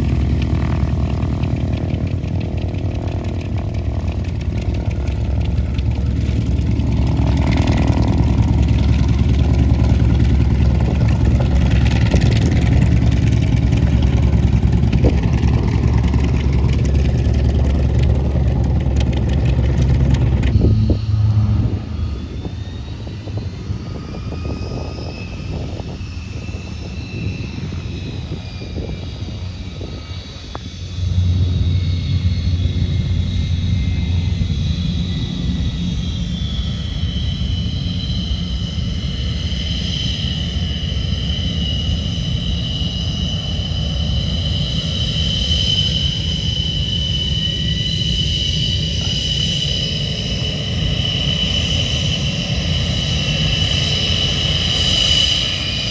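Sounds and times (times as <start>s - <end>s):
high whine gliding up and down: 0.0s - 55.9s
low engine sound: 0.0s - 55.9s
piston aircraft engine running: 0.0s - 55.9s.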